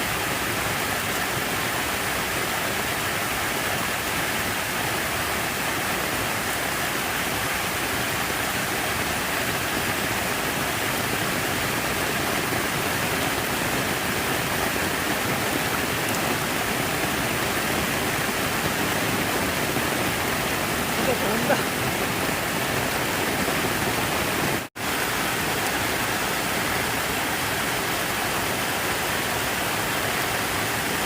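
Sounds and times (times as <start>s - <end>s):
water falling and splashing: 0.0s - 31.0s.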